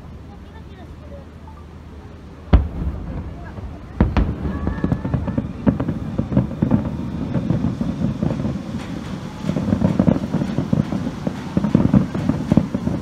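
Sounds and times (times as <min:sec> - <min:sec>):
low rumble: 0:02.2 - 0:13.0
fireworks bangs and crackles: 0:02.3 - 0:13.0.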